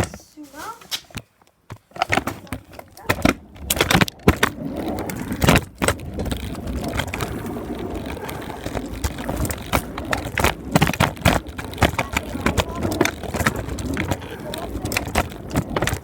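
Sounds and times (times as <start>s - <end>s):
scooter wheels rolling on wet pavement: 1.7s - 16.0s.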